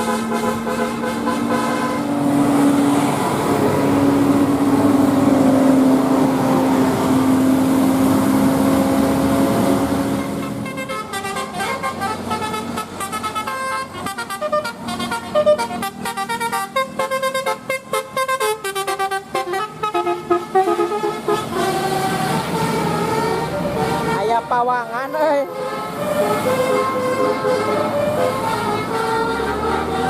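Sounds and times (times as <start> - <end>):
multi-tone musical bus horn: 0.0 - 3.3, 3.9 - 30.0
bus running noise: 0.0 - 30.0.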